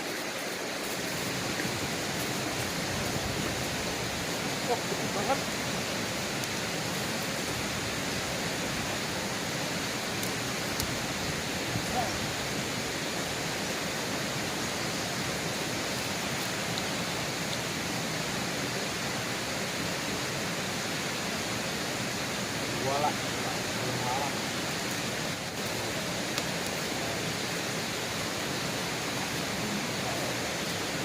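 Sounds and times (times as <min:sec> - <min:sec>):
flowing river water: 0:00.0 - 0:31.0.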